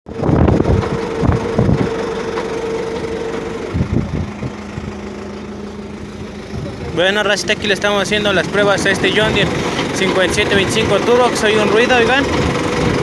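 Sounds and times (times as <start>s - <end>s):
tractor whining: 0.1s - 13.0s.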